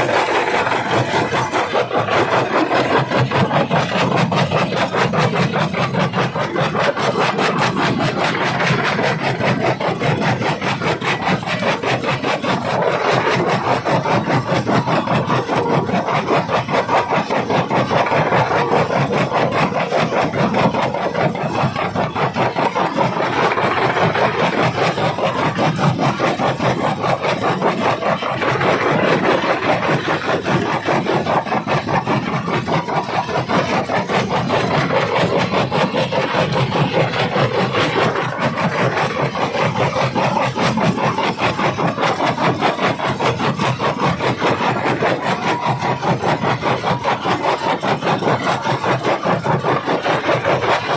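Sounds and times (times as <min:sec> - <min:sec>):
rock crusher grinding stone: 0:00.0 - 0:50.9.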